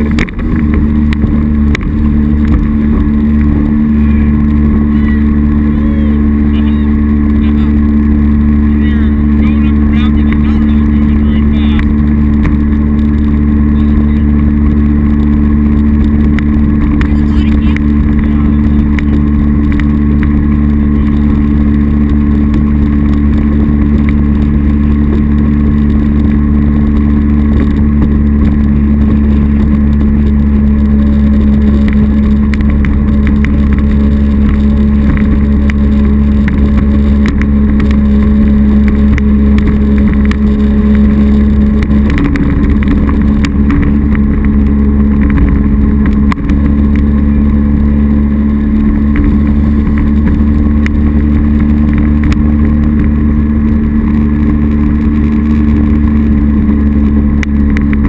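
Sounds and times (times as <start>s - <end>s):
boat engine droning: 0.0s - 58.0s
water rushing along hull: 0.0s - 58.0s.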